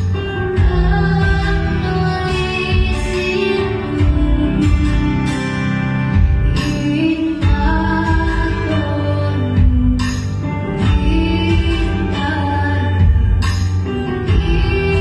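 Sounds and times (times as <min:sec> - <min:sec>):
backing track with beat and bass: 0:00.0 - 0:15.0
girl singing into a microphone: 0:00.0 - 0:15.0.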